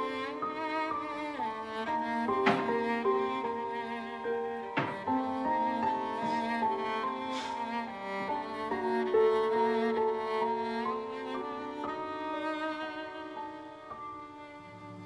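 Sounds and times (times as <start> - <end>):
violin and cello melody: 0.0 - 15.0.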